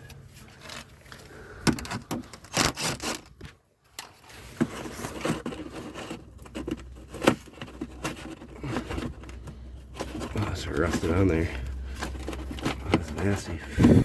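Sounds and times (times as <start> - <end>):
plastic fender liner handled: 0.3 - 14.0.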